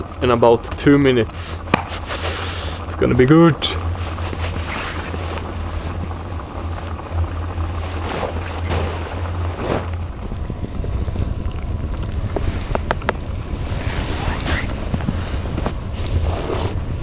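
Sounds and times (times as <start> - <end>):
wind noise on microphone: 1.6 - 17.0.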